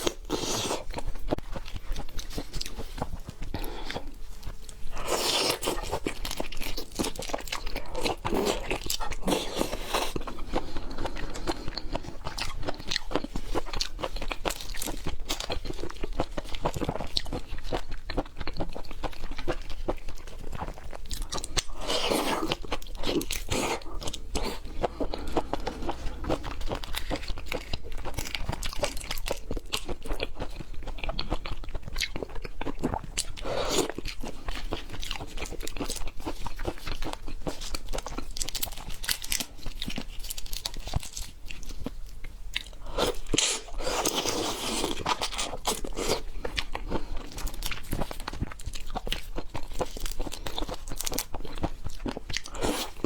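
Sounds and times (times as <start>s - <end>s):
wet crunching chewing: 0.0s - 53.0s.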